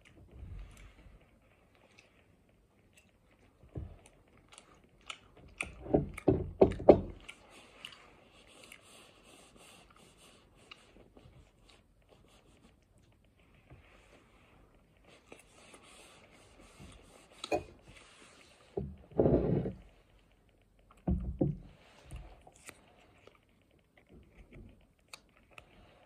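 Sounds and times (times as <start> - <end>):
faint scraping and rustling: 0.0 - 5.0, 5.7 - 26.0
close-up chewing: 0.0 - 26.0.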